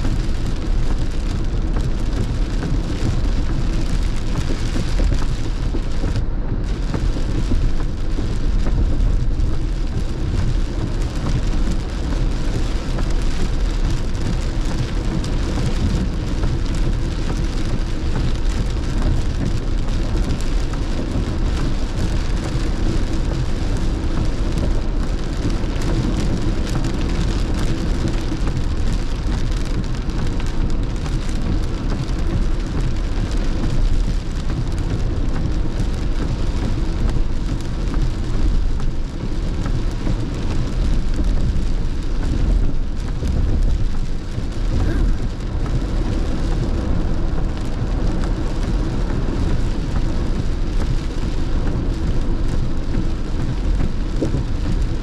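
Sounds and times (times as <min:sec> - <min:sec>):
heavy rain on car roof: 0:00.0 - 0:55.0
tyres hissing on wet road: 0:00.0 - 0:55.0.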